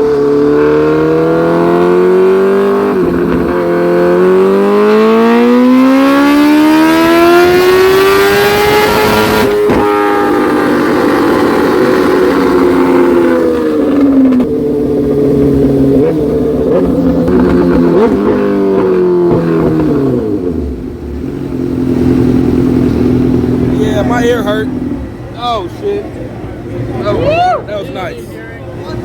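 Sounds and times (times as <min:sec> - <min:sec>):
motorcycle engine revving: 0:00.0 - 0:25.3.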